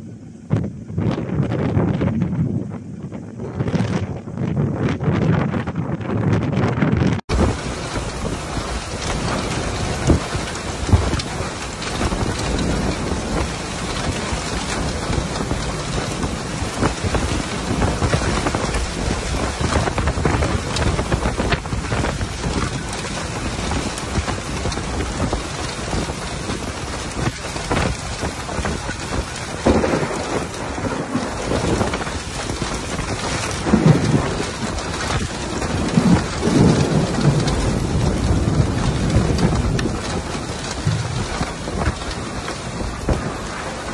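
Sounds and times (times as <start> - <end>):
thunder rumbling: 0.0 - 43.9
steady rain falling: 7.2 - 43.9.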